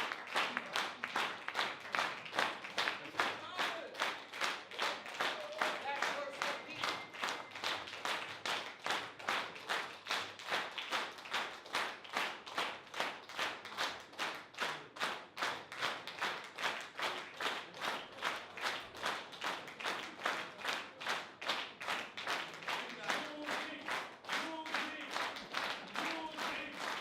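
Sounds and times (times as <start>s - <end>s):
audience clapping in unison: 0.0s - 27.0s.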